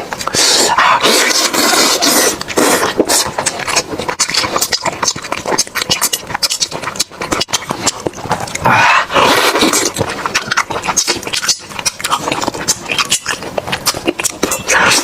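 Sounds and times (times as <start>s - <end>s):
crunching and chewing: 0.0s - 15.0s.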